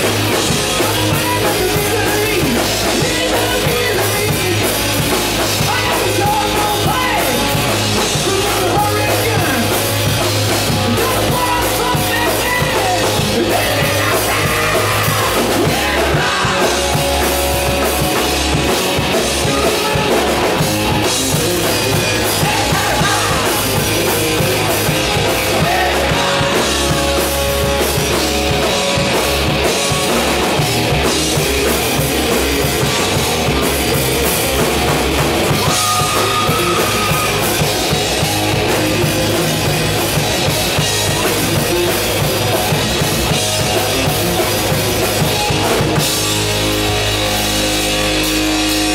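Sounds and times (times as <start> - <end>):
bass guitar: 0.0 - 48.9
drum kit: 0.0 - 48.9
electric guitars: 0.0 - 48.9.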